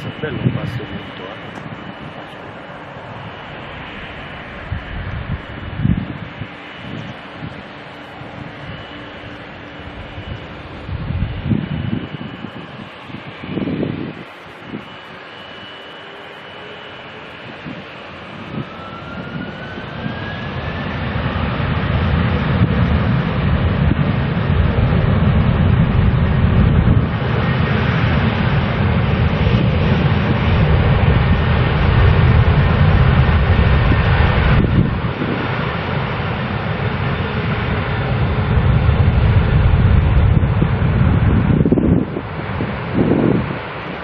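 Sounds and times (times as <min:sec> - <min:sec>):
jet engines passing: 0:00.0 - 0:44.0.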